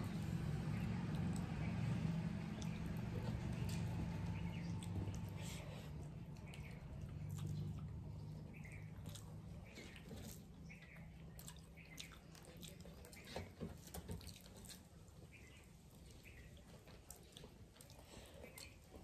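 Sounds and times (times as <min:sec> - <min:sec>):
mouth clicks and chewing: 0:00.1 - 0:19.0.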